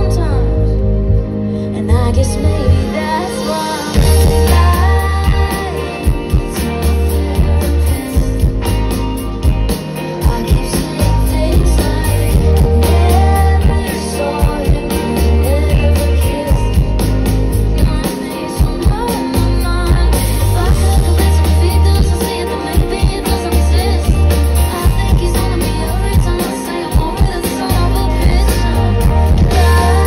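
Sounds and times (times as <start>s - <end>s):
woman singing: 0.0s - 0.8s, 1.6s - 9.0s, 9.7s - 30.0s
electric guitar: 0.0s - 30.0s
heavy bass: 0.0s - 30.0s.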